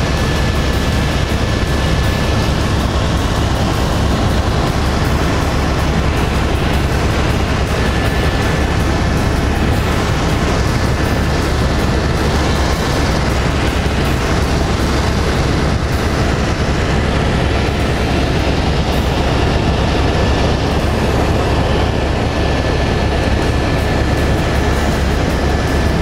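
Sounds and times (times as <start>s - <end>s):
aircraft engine rumble: 0.0s - 26.0s.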